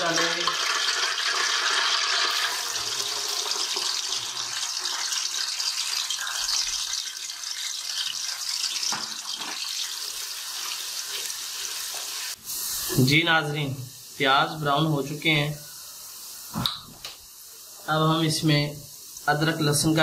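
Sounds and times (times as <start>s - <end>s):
onions sizzling in hot fat: 0.0s - 20.0s.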